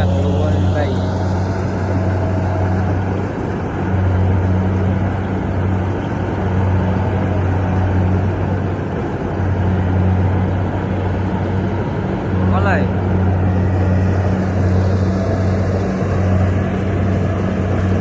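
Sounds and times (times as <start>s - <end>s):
combine harvester diesel drone: 0.0s - 18.0s.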